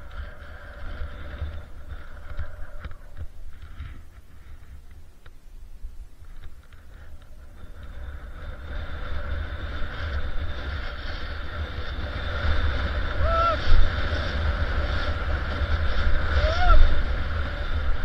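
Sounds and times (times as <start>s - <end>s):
wind over microphone: 0.0s - 18.0s.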